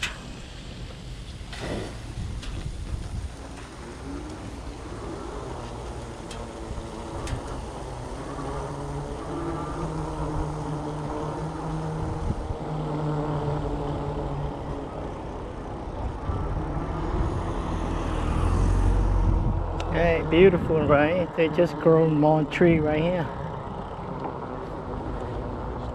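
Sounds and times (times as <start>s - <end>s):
bike tyre noise on asphalt: 0.0s - 25.9s
steady low hum: 0.0s - 25.9s
wind on microphone: 1.3s - 25.9s.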